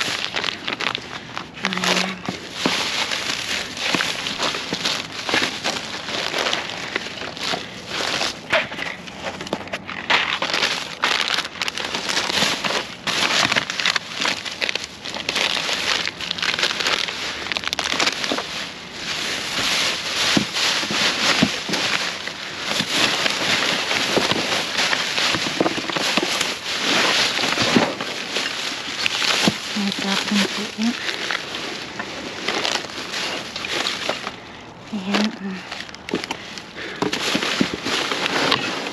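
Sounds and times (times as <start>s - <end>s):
plastic trash bags rustling: 0.0s - 38.9s.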